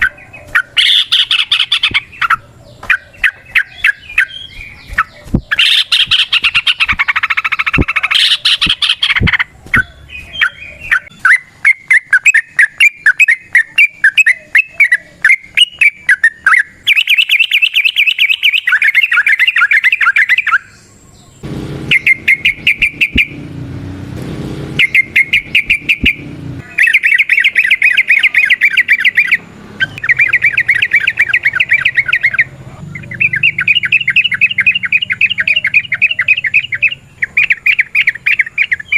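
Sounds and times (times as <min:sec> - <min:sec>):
bulbul singing chattering notes: 0:00.0 - 0:20.8, 0:21.8 - 0:23.6, 0:24.7 - 0:38.9.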